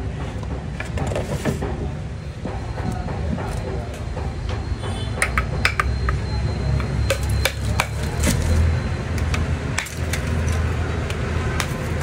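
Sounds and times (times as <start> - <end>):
background traffic rumble: 0.0 - 12.0.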